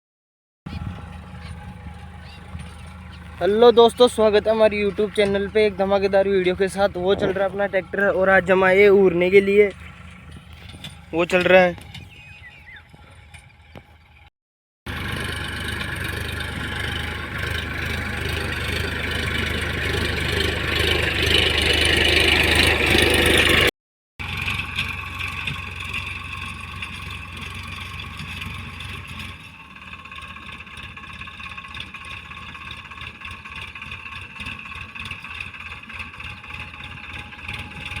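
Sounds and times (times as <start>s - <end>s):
tractor engine running: 0.7s - 14.3s, 14.9s - 38.0s.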